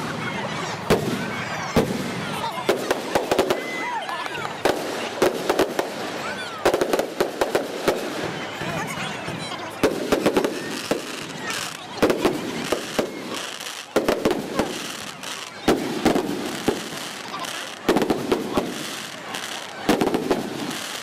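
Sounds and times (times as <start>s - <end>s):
fireworks whistling: 0.0s - 8.4s, 9.8s - 21.0s
fireworks bursting with sharp bangs: 0.0s - 21.0s
fireworks crackling: 0.0s - 21.0s.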